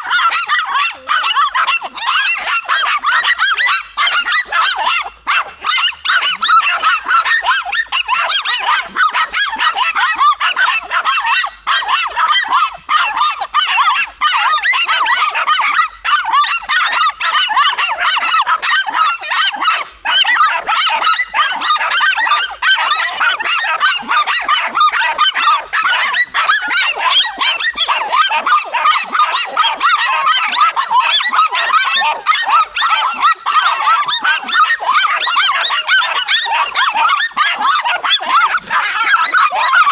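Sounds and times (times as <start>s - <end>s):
dogs barking and yapping: 0.0s - 39.9s.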